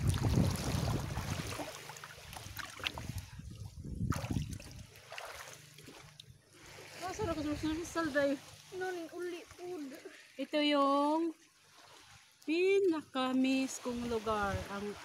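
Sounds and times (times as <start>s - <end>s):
sea water splashing: 0.0s - 15.0s.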